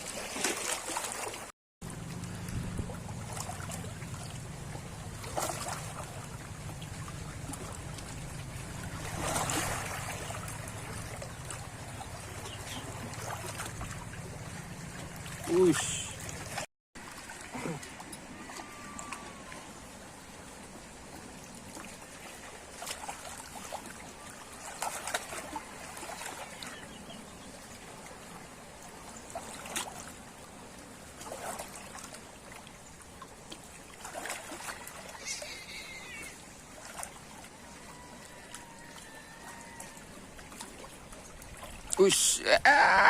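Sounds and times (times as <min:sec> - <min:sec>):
water trickling and lapping: 0:00.0 - 0:43.0.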